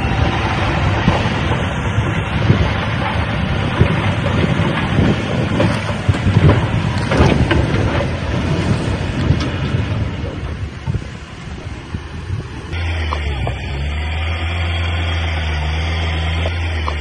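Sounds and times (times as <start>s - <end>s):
heavy diesel machinery rumbling: 0.0s - 17.0s.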